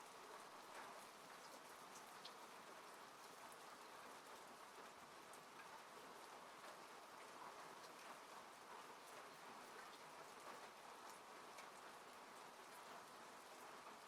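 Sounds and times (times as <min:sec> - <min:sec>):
rain falling on a car: 0:00.0 - 0:14.0.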